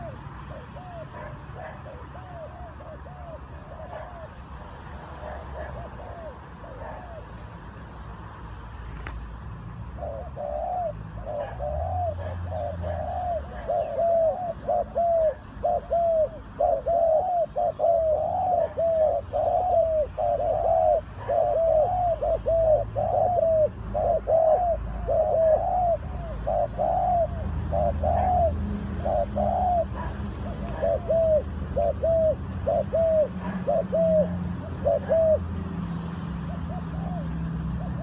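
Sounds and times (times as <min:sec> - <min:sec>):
dove cooing: 0:00.0 - 0:07.5, 0:09.9 - 0:35.7, 0:36.3 - 0:38.0.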